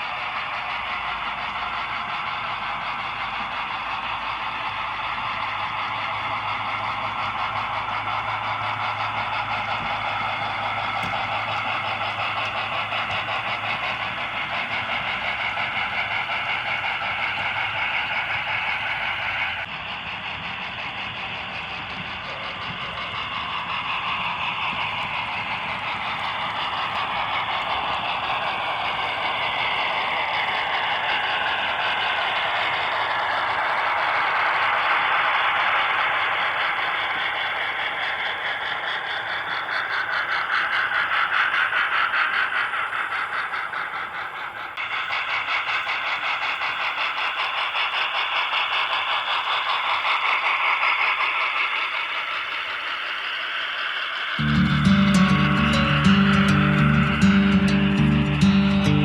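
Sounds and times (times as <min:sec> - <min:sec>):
model steam locomotive sounds: 0:00.0 - 0:59.0.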